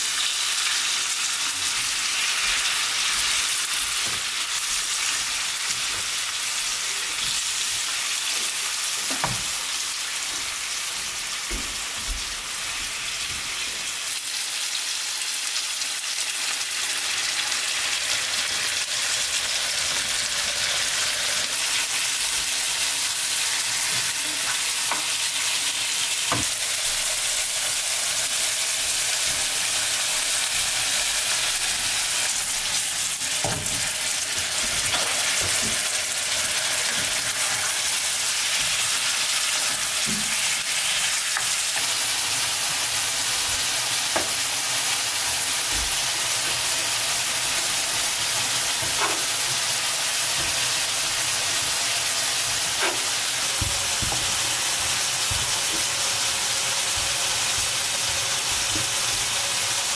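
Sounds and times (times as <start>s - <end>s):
meat sizzling in a frying pan: 0.0s - 59.9s.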